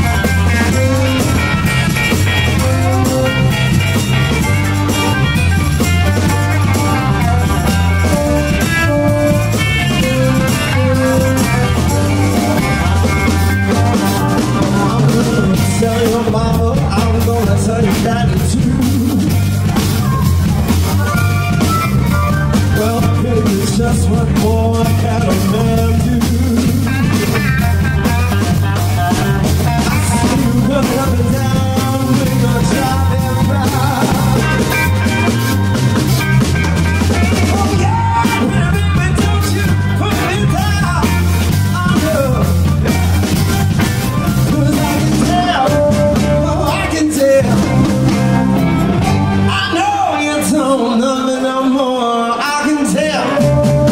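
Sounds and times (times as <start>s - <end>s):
blues band playing through speakers: 0.0s - 53.9s
person singing: 0.0s - 53.9s.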